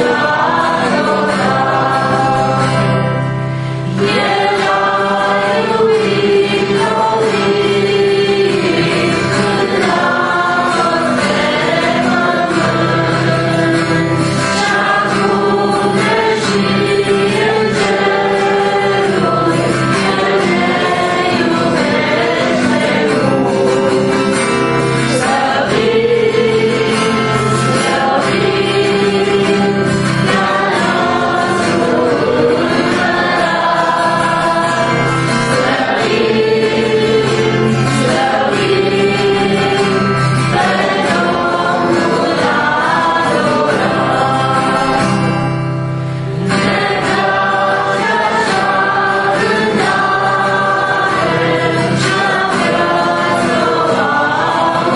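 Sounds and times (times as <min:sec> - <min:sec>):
acoustic guitar: 0:00.0 - 0:54.9
women and man singing a hymn: 0:00.0 - 0:54.9.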